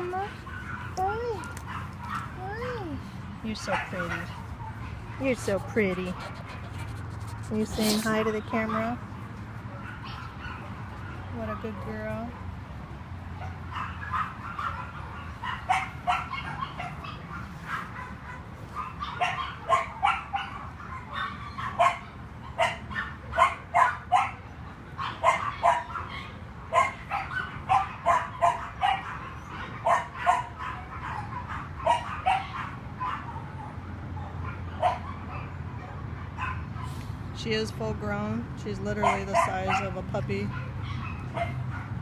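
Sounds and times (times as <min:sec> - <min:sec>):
dogs barking and yipping: 0:00.0 - 0:12.6, 0:13.2 - 0:37.0, 0:38.9 - 0:42.0.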